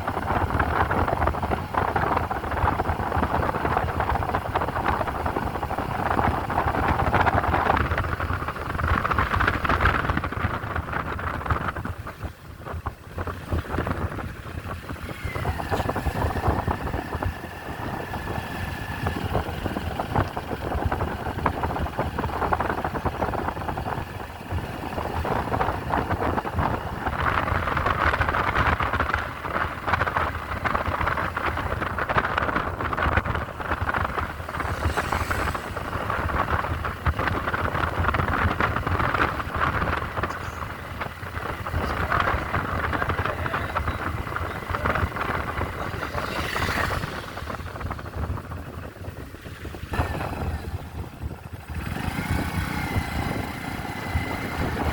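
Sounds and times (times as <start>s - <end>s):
motorcycle engine rumble: 0.0s - 54.9s
traffic: 0.0s - 54.9s
wind rushing over microphone: 0.0s - 54.9s.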